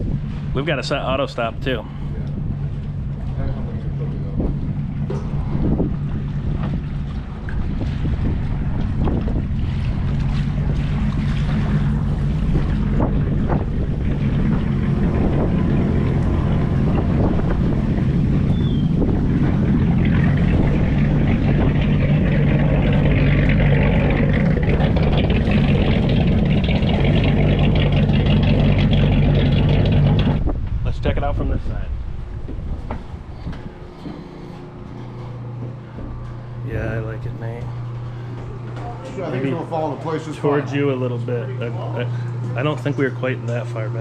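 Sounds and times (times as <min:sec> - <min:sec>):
motor humming: 0:00.0 - 0:30.8, 0:31.9 - 0:44.0.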